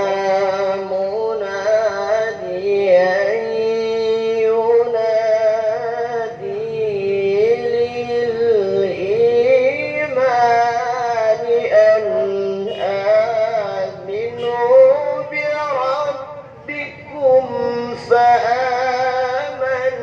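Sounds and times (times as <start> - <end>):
man chanting through a microphone: 0.0 - 20.0.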